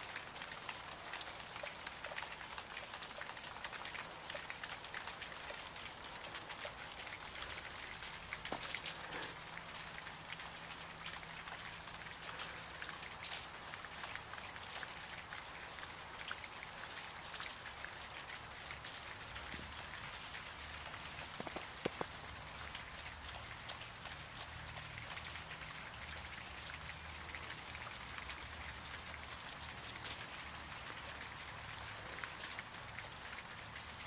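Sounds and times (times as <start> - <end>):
small ticks and pattering: 0.0 - 34.0
steady outdoor hiss: 0.0 - 34.0.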